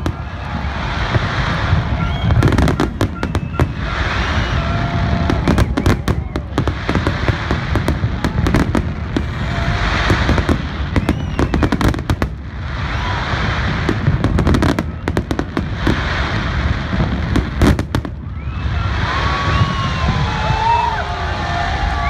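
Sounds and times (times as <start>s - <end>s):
crackling hiss of fireworks: 0.0s - 22.0s
firework bangs: 0.0s - 22.0s.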